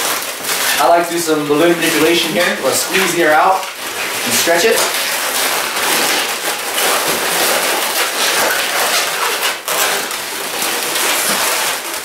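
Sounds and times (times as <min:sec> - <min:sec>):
balloons rubbing and rustling: 0:00.0 - 0:12.0.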